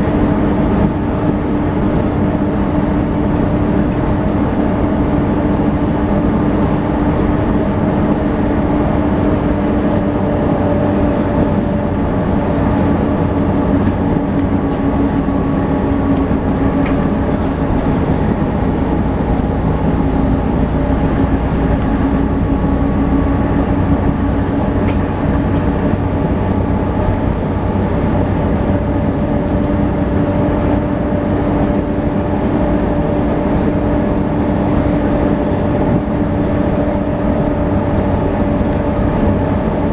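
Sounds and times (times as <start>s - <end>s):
bus drivetrain whine: 0.0s - 39.9s
engine and road noise: 0.0s - 39.9s.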